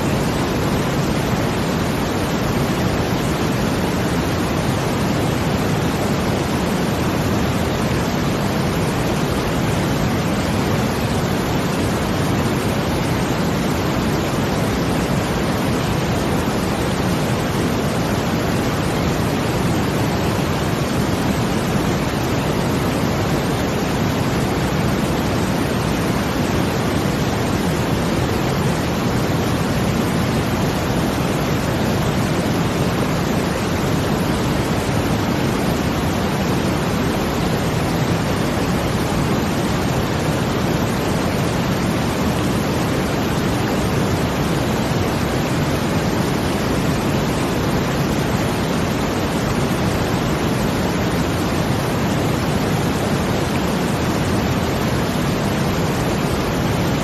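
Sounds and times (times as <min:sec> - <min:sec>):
brown noise: 0:00.0 - 0:57.0
water rushing: 0:00.0 - 0:57.0.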